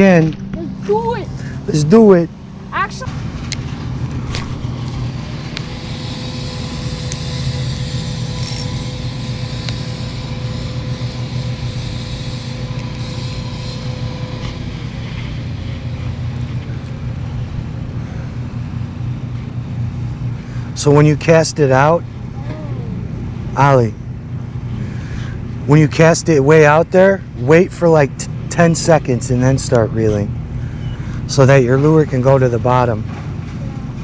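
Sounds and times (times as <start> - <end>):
faint steady hum: 0.0 - 34.0
low engine rumble: 0.0 - 34.0.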